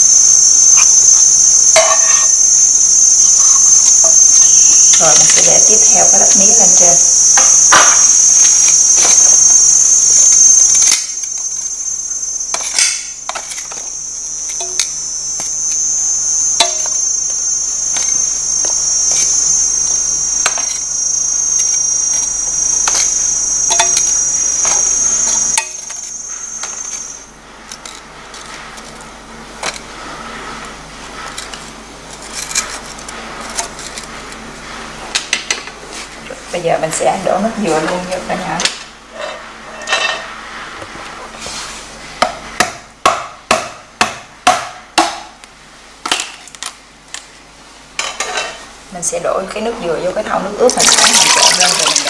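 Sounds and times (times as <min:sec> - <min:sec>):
insects chorus: 0:00.0 - 0:42.5, 0:46.9 - 0:52.0.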